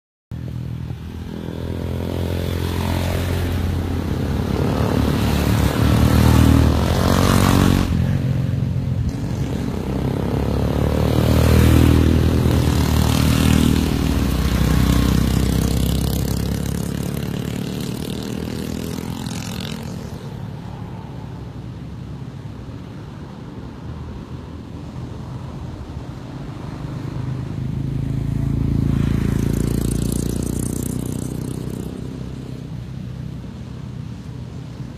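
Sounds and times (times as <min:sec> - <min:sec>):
motorcycle engines revving: 0:00.4 - 0:23.0, 0:24.2 - 0:34.9.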